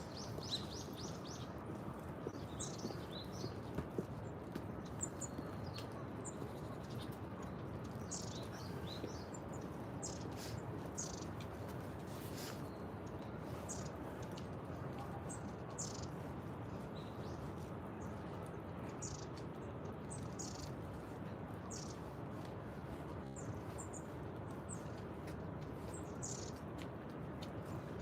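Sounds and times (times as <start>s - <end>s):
small birds chirping: 0.0s - 22.5s, 23.2s - 28.0s
low background noise: 0.0s - 28.0s.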